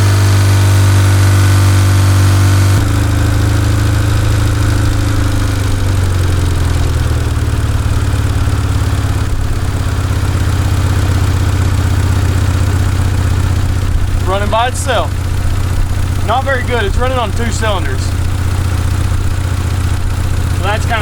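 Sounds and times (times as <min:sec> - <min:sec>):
car engine idling roughly: 0:00.0 - 0:21.0.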